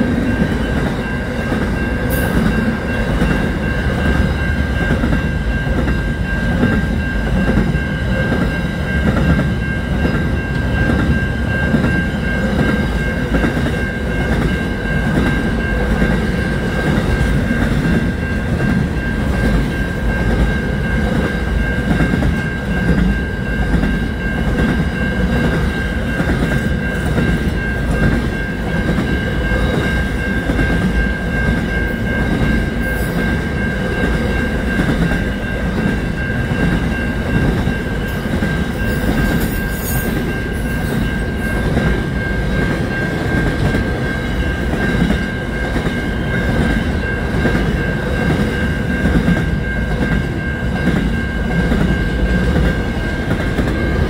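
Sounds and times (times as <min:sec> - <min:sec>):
steady high tone: 0:00.0 - 0:54.0
train wagons rumbling past: 0:00.0 - 0:54.0.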